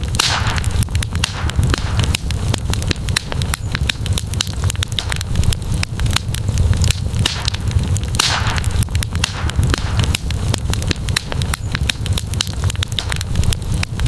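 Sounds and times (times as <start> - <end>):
campfire crackling and popping: 0.0 - 14.0
low steady rumble: 0.0 - 14.0.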